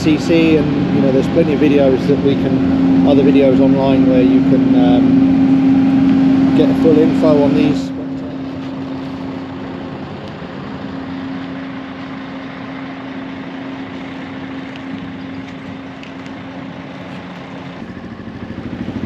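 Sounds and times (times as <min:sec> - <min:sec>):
engine humming: 0:00.0 - 0:19.0
outdoor background noise: 0:00.0 - 0:19.0.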